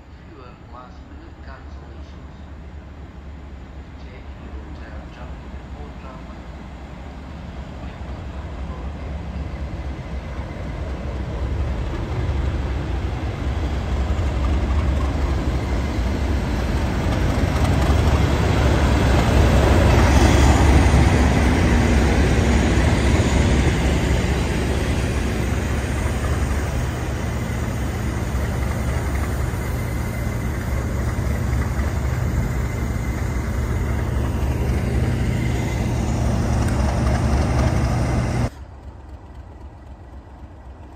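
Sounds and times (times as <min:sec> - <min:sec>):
diesel locomotive passing: 0:00.0 - 0:40.9
train wheels on rails: 0:04.1 - 0:40.9.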